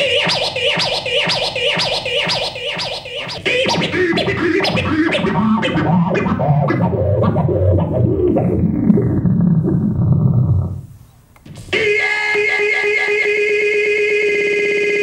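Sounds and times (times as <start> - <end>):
turntable scratching over a beat: 0.0 - 10.9, 11.5 - 12.7.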